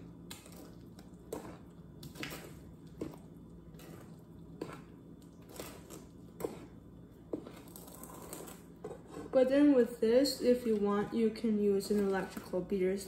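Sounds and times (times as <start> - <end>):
spatula stirring thick batter: 0.0 - 13.0.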